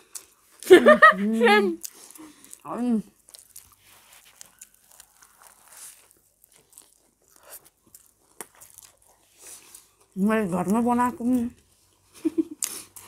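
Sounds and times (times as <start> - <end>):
people chewing and crunching: 0.0 - 13.0.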